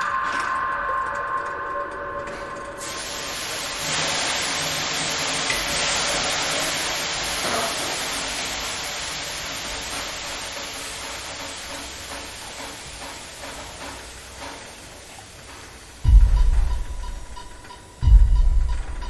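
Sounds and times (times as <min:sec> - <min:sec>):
steady rushing hiss: 0:00.1 - 0:19.0.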